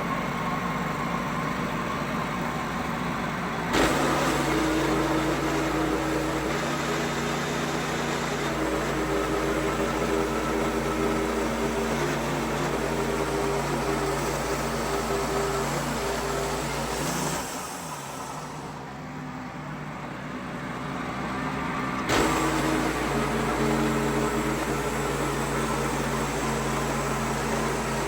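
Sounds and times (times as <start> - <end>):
saw gas engine running: 0.0 - 28.0.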